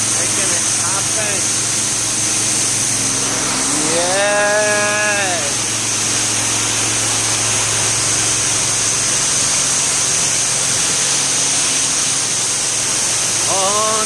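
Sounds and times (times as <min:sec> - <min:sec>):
low motor hum: 0:00.0 - 0:14.0
pressure washer water jet hiss: 0:00.0 - 0:14.0.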